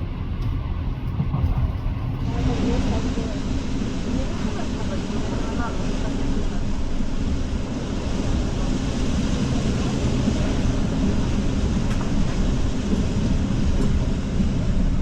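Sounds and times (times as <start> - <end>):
moving train rumble: 0.0 - 15.0.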